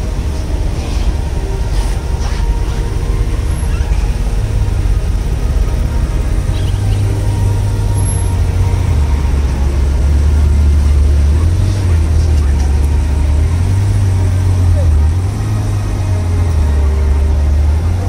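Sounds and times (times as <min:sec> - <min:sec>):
car engines idling and crawling: 0:00.0 - 0:18.0.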